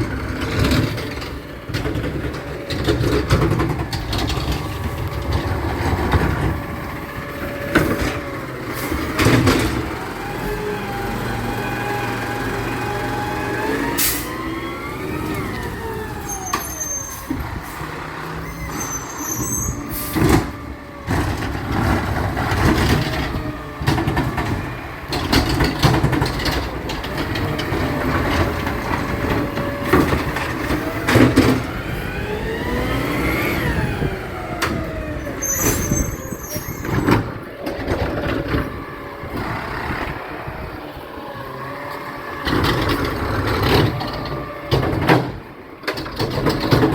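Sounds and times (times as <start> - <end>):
garbage truck engine revving: 0.0 - 46.9.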